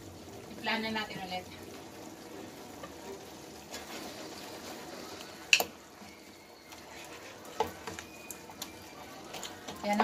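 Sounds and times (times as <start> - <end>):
sauce bubbling in a pan: 0.0 - 10.0.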